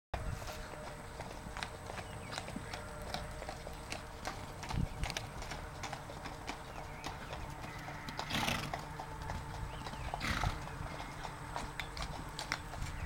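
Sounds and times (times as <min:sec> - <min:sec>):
hoofbeats cantering on sand: 0:00.2 - 0:13.0.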